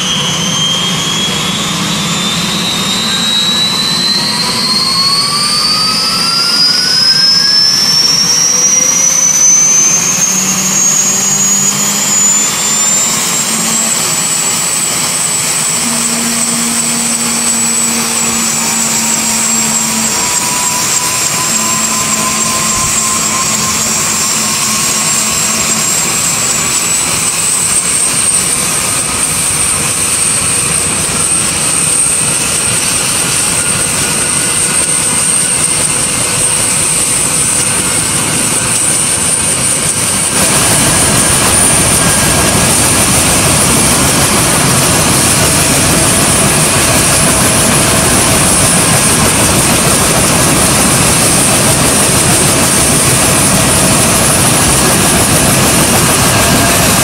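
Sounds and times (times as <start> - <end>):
helicopter engine high whine: 0.0 - 57.0
lower engine whine: 0.0 - 57.0.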